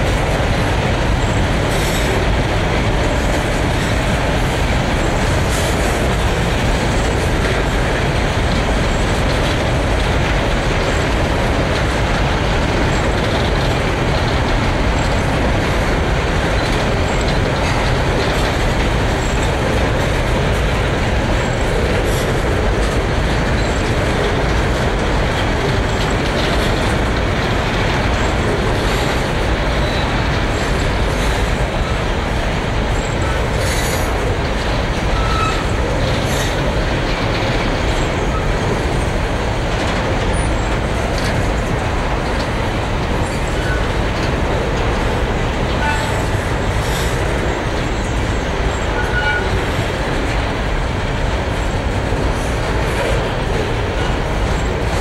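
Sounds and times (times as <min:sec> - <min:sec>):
steel train wheels rumbling on rails: 0:00.0 - 0:55.0.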